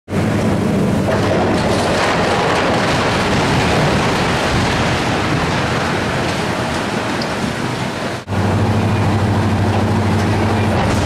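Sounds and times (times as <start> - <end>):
crashing rumble of buckling steel: 0.1 - 11.0.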